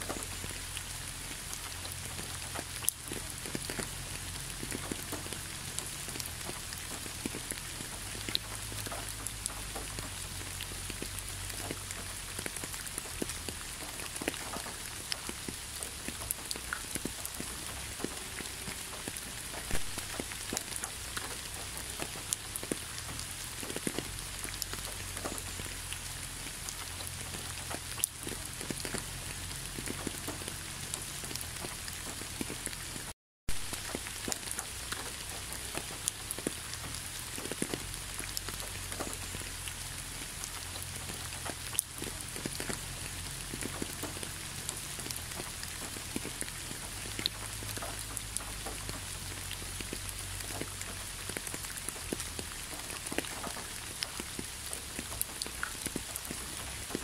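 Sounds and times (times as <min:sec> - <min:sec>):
rain falling on wet road: 0:00.0 - 0:57.0.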